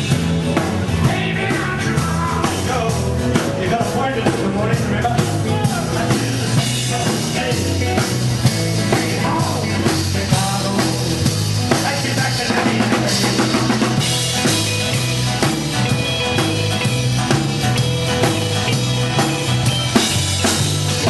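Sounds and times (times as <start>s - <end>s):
bass guitar: 0.0s - 21.0s
drum kit beat: 0.0s - 21.0s
electric guitar: 0.0s - 21.0s
keyboards: 0.0s - 21.0s.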